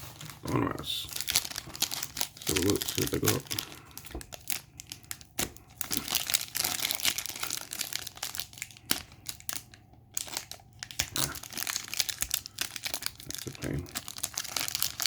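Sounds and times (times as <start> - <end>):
plastic wrapper crinkling and tearing: 0.0 - 15.0.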